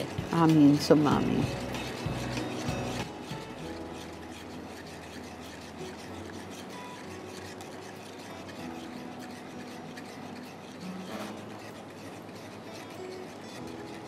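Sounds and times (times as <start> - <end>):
whisk clicking against pan: 0.0 - 14.0
whisk rasping in pan: 0.0 - 14.0.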